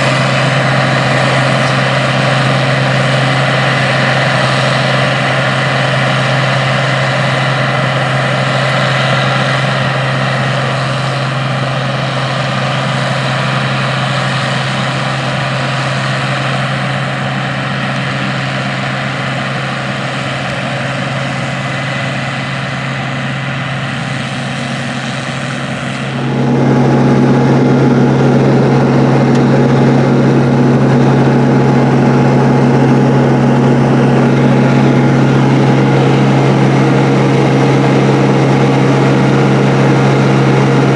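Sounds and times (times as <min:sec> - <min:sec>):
combine engine drone: 0:00.0 - 0:40.9.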